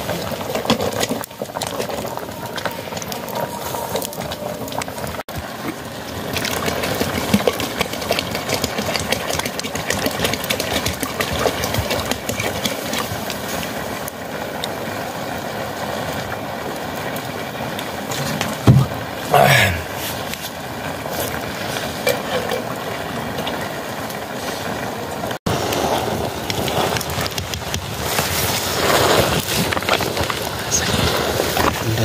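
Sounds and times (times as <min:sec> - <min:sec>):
fire crackling: 0:00.0 - 0:32.0
pot boiling hard: 0:00.0 - 0:32.0.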